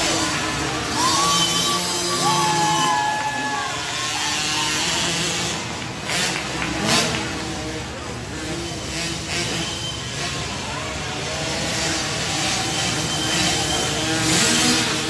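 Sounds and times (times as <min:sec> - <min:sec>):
small dirt bike engines: 0:00.0 - 0:15.0.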